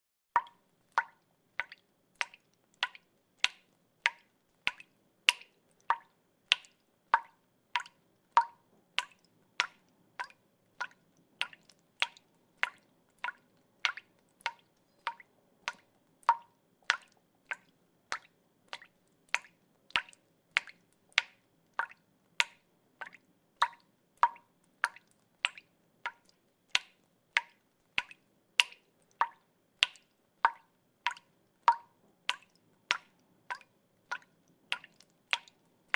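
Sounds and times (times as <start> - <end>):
water dripping: 0.3 - 35.9.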